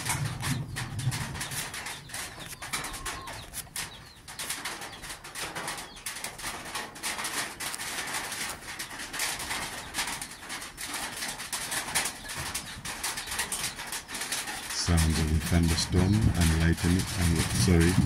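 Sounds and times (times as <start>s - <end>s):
rain on a metal roof: 0.0s - 18.0s.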